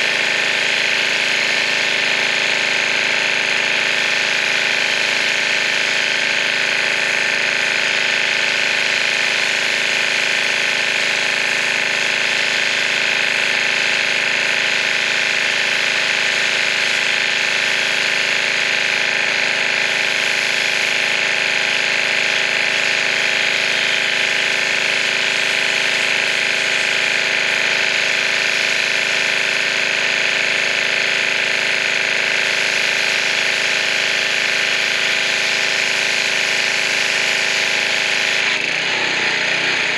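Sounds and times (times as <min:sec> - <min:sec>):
pressure washer motor droning: 0:00.0 - 0:39.9.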